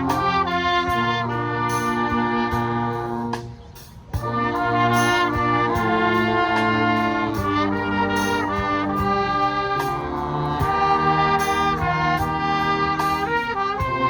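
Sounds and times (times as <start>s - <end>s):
percussion strikes: 0.0s - 14.0s
wind band playing chords: 0.0s - 14.0s.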